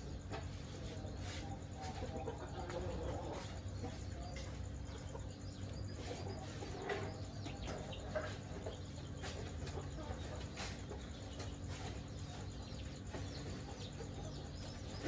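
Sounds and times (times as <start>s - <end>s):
chickens clucking: 0.0s - 15.0s
steady low hum: 0.0s - 15.0s.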